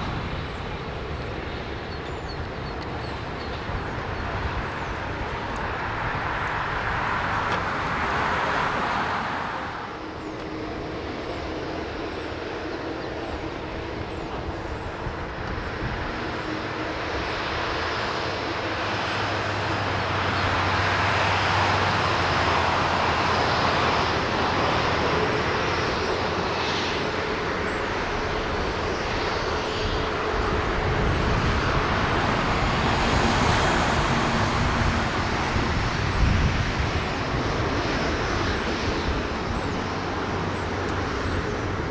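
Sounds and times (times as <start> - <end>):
jet engines whining and rumbling: 0.0 - 41.9.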